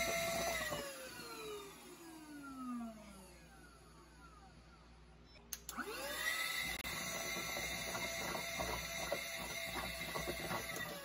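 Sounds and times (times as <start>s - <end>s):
handheld vacuum motor whine: 0.0s - 4.5s, 5.7s - 11.0s.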